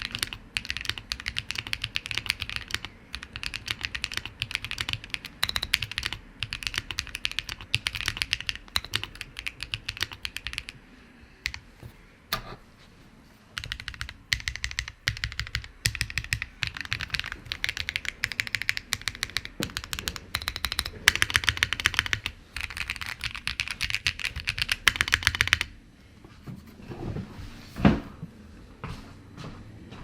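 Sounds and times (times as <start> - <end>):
mechanical keyboard typing: 0.0 - 10.8, 11.4 - 12.6, 13.6 - 25.7.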